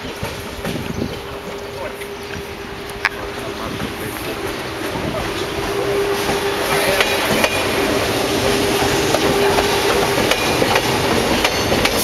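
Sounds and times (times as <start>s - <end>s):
steady train hum: 0.0s - 12.0s
train wheels clacking on rails: 0.0s - 12.0s.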